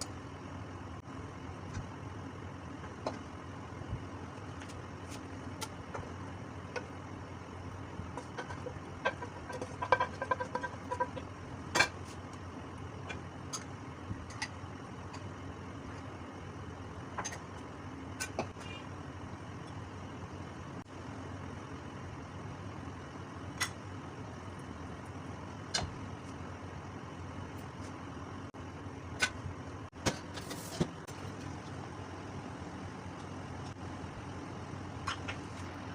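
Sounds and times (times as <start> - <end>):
kitchen hum: 0.0 - 35.9.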